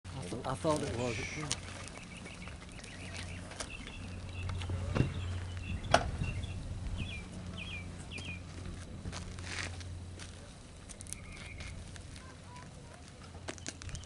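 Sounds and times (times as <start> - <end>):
small birds chirping: 0.1 - 8.6, 10.4 - 14.0
steady low hum: 0.1 - 14.0.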